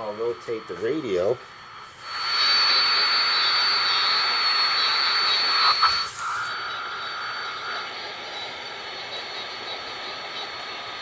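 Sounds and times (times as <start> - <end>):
radio static hiss: 0.0 - 11.0
steady high whistle: 0.0 - 11.0.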